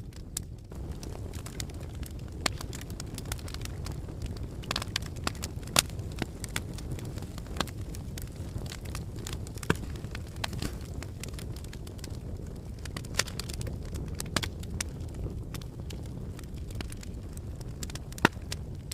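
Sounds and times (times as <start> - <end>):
low rumble of flames: 0.0 - 18.9
wood fire crackling and popping: 0.0 - 18.9.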